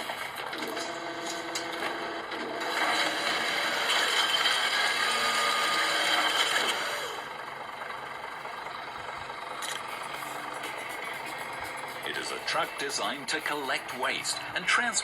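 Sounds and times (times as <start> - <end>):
garbage truck engine rattling: 0.0 - 15.0.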